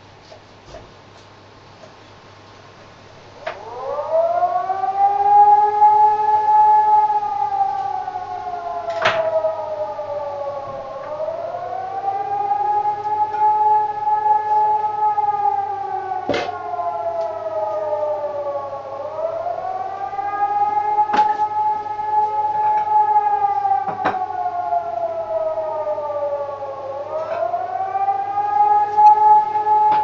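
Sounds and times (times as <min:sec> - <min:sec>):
fainter siren wail: 0:03.3 - 0:30.0
rising and falling siren: 0:03.4 - 0:30.0.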